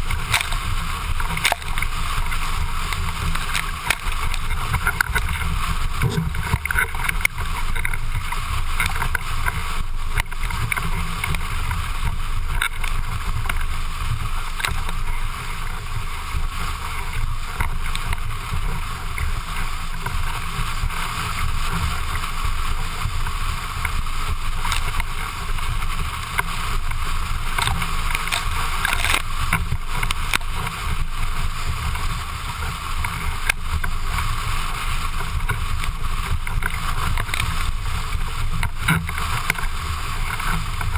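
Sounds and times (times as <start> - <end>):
board slapping waves: 0.0 - 40.9
water hissing under hull: 0.0 - 40.9
wind rushing on microphone: 0.0 - 40.9.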